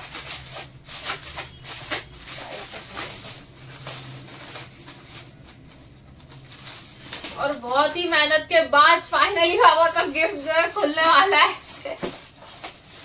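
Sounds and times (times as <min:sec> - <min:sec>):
gift wrapping tearing and crinkling: 0:00.0 - 0:13.0.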